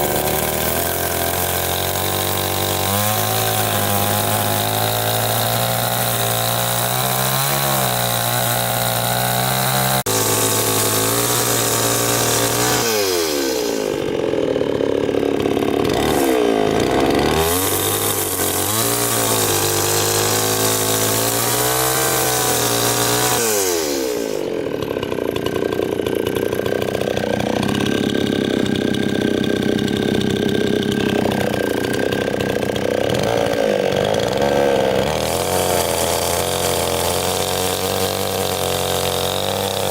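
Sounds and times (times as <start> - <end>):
small petrol engine revving: 0.0 - 39.9.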